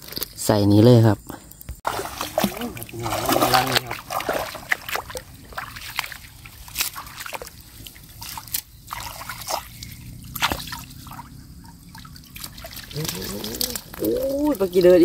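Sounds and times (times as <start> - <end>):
hands splashing in shallow water: 1.9 - 15.0
water drips and trickles: 1.9 - 15.0.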